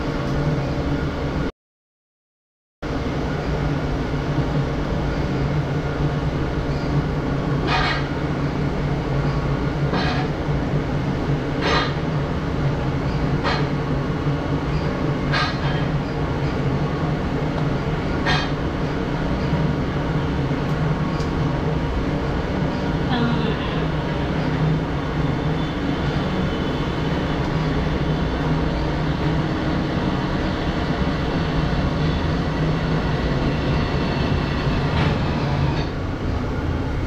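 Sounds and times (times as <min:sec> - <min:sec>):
low mechanical hum: 0:02.9 - 0:37.0.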